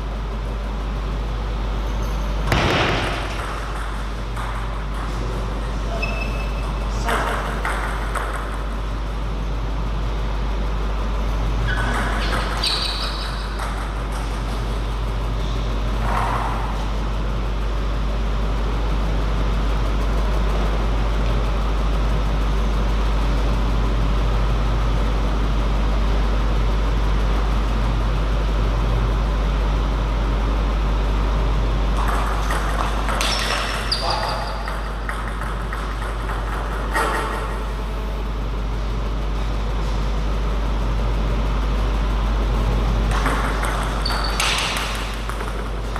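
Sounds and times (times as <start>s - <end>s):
low hum of hall: 0.0s - 45.9s.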